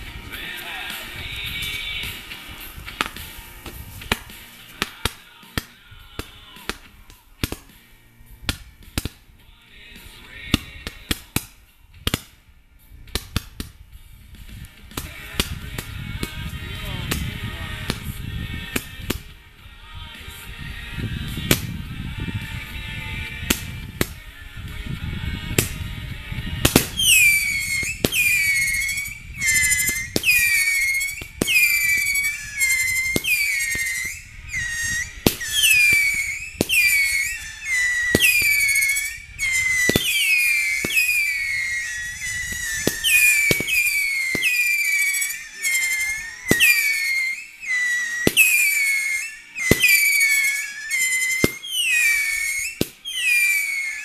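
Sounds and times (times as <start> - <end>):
whistling firework shots: 0.0 - 9.3, 10.0 - 12.4, 13.1 - 19.4, 20.4 - 54.0
low rushing with pops: 0.0 - 47.4.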